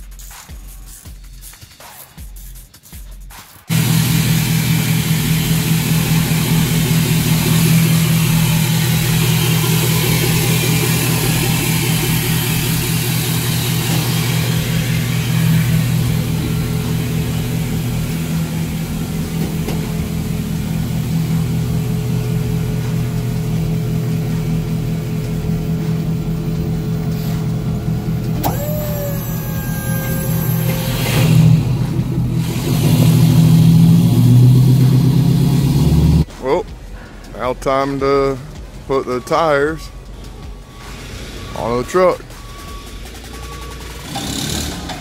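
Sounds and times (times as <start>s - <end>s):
engine running steadily: 3.7s - 45.0s.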